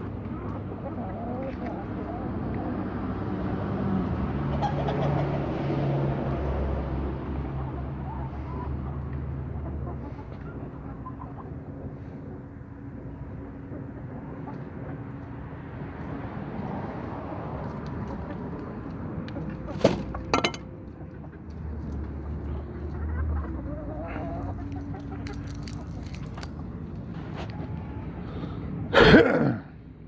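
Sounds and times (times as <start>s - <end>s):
chickens clucking softly: 0.0s - 15.4s, 17.6s - 28.2s.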